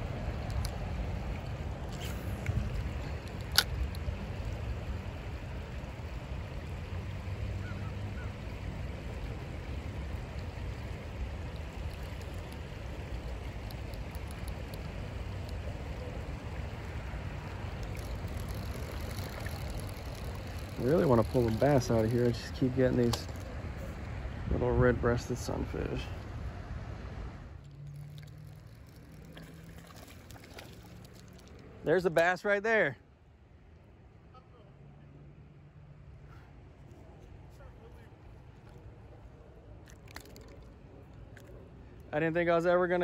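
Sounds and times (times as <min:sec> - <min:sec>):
low outdoor rumble: 0:00.0 - 0:43.0.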